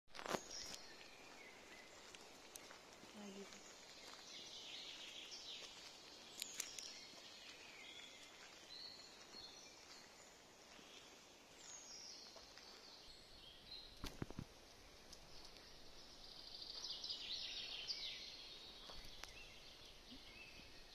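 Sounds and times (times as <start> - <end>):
faint woodland ambience: 0.1 - 20.9
high songbird chirps: 0.2 - 20.9.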